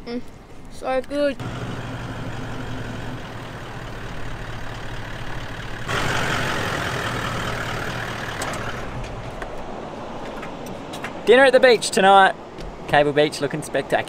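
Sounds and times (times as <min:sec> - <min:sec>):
vehicle engine humming: 0:00.0 - 0:11.8.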